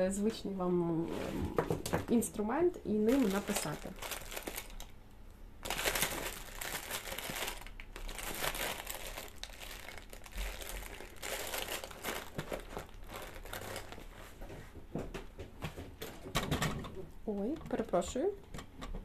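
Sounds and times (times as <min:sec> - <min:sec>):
crinkling and rustling: 0:03.0 - 0:05.0, 0:05.6 - 0:19.0.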